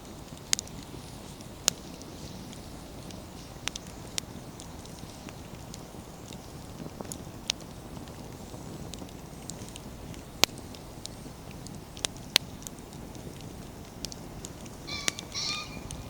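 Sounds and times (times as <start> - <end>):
campfire flame rushing: 0.0 - 16.0
firewood crackling and popping: 0.0 - 16.0.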